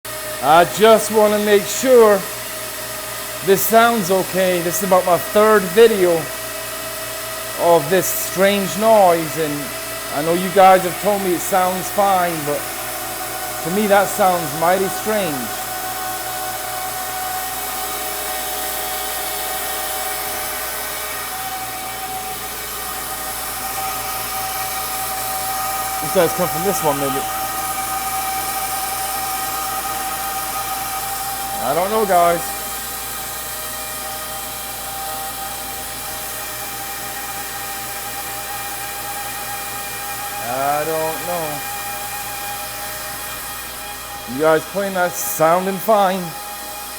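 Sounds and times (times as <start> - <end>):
machine whine: 0.1 - 46.9.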